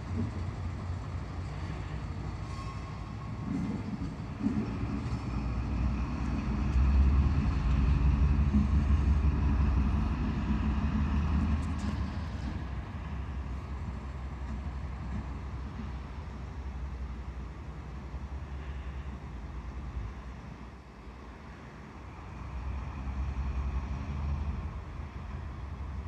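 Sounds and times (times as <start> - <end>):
diesel locomotive engine: 0.0 - 26.0
faint engine whine: 0.0 - 26.0.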